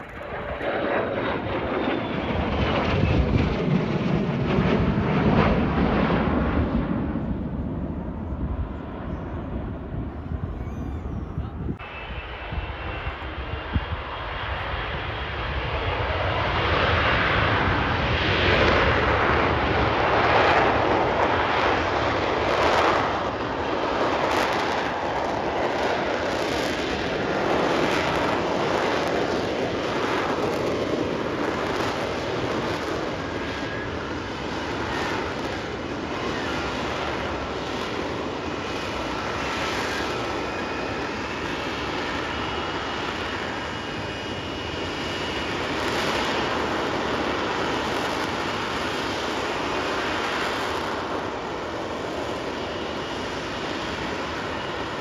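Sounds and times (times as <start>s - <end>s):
jet fighter flying over: 0.0s - 55.0s.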